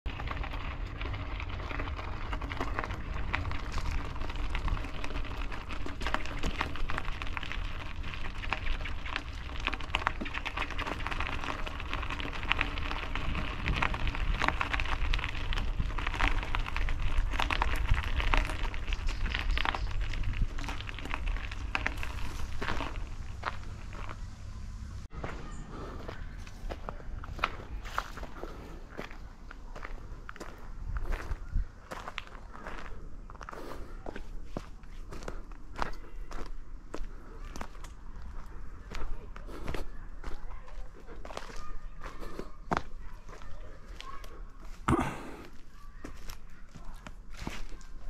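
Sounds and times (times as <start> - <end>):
footsteps on gravel: 0.1 - 48.0.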